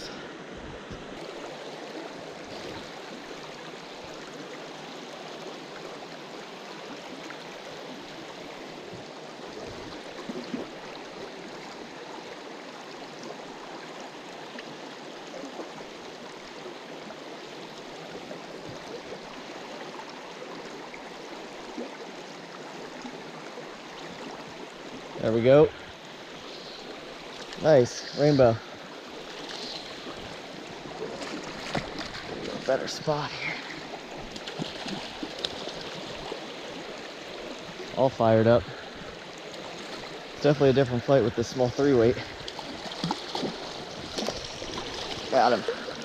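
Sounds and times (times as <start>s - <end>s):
stream water running over rocks: 0.0s - 46.0s.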